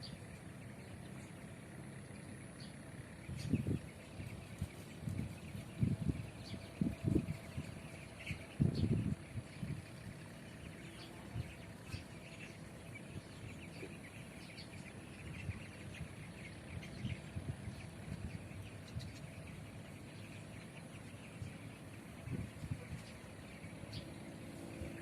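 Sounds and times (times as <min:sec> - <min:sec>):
low uneven rumble: 0:00.0 - 0:25.0
small birds chirping: 0:00.0 - 0:25.0.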